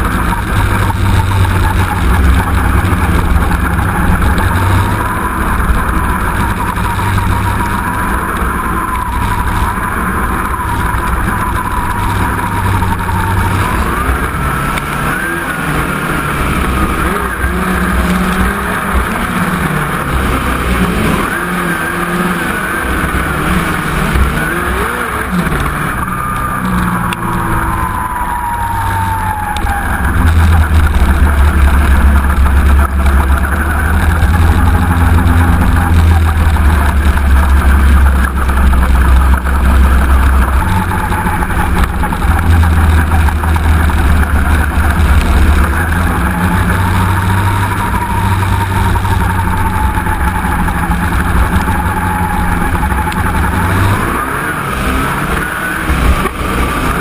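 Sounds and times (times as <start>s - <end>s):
other race cars in a pack: 0.0s - 57.0s
race car engine: 0.0s - 57.0s.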